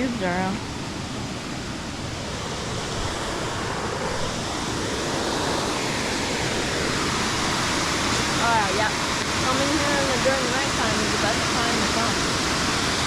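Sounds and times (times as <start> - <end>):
waterfall rushing: 1.9 - 13.0.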